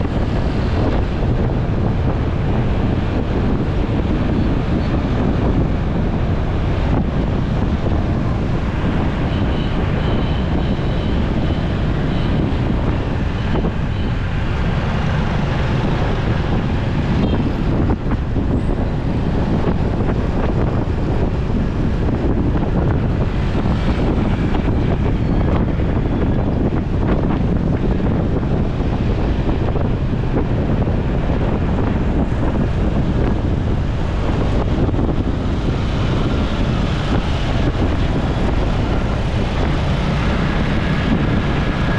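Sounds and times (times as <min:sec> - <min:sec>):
city traffic: 0:00.0 - 0:41.9
wind rushing on microphone: 0:00.0 - 0:41.9.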